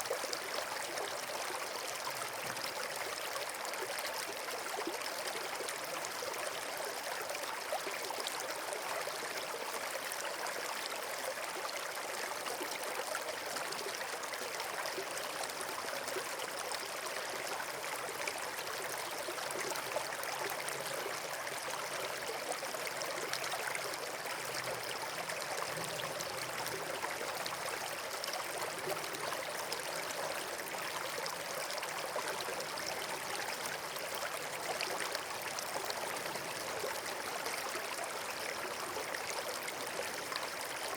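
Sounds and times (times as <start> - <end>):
flowing water rushing: 7.7 - 40.9.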